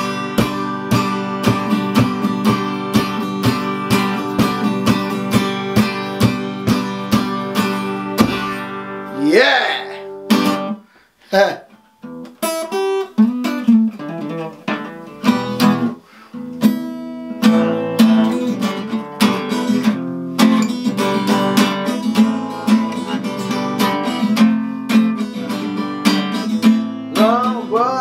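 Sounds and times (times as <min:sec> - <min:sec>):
guitar strumming: 0:00.0 - 0:28.0.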